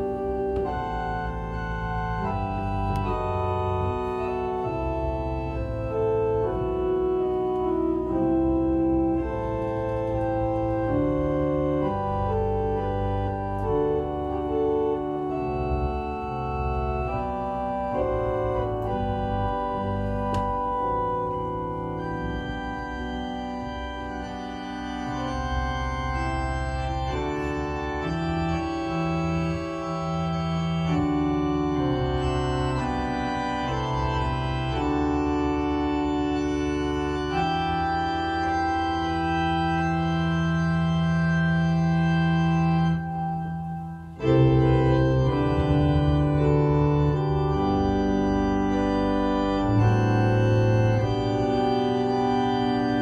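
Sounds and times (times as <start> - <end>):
church organ chords: 0.0 - 53.0.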